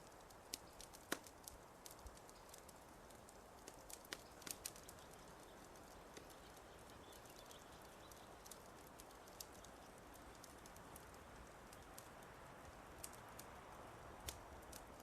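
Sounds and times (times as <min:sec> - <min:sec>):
steady low hiss: 0:00.0 - 0:15.0
wood fire crackling: 0:00.0 - 0:15.0.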